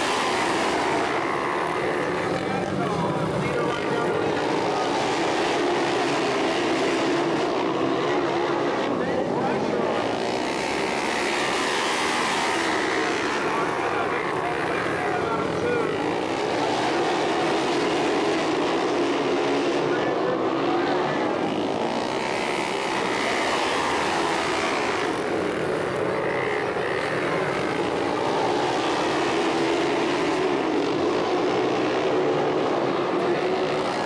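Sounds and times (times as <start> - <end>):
racing motorcycles accelerating past: 0.0 - 34.0.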